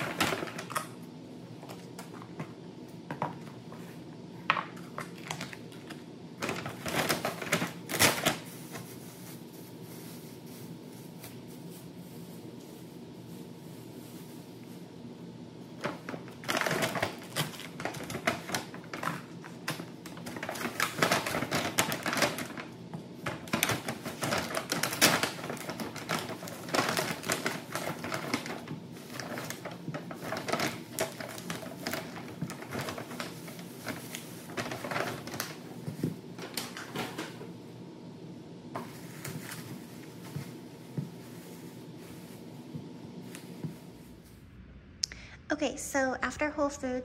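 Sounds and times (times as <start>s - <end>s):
paper bags rustling: 0.0s - 37.5s, 38.7s - 44.5s.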